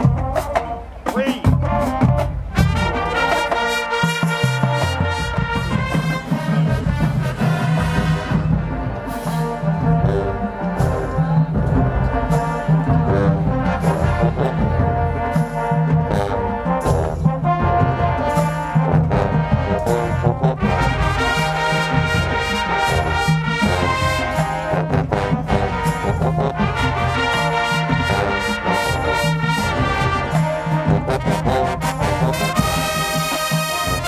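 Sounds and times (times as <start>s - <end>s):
marching band playing: 0.0s - 34.0s
percussion hits: 0.0s - 34.0s
low brass bass line: 1.4s - 34.0s.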